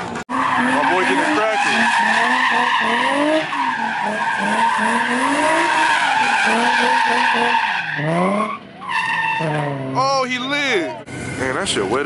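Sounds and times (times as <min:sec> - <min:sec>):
car engine revving: 0:00.0 - 0:10.0, 0:10.9 - 0:12.0
tyres squealing: 0:00.3 - 0:11.0.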